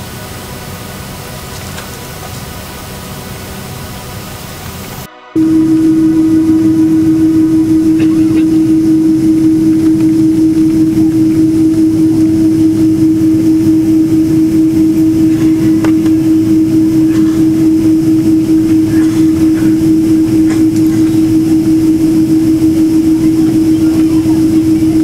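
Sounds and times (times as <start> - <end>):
airliner engine drone: 0.0 - 25.0.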